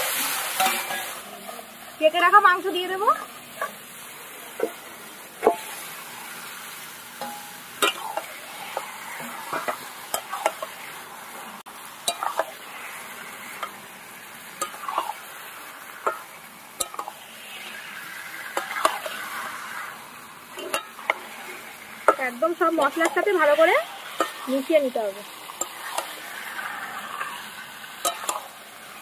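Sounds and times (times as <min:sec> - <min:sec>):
chicken sizzling in pan: 0:00.0 - 0:29.0
metal spatula scraping pan: 0:00.2 - 0:03.9, 0:05.4 - 0:11.0, 0:12.1 - 0:13.9, 0:14.5 - 0:15.3, 0:16.0 - 0:29.0.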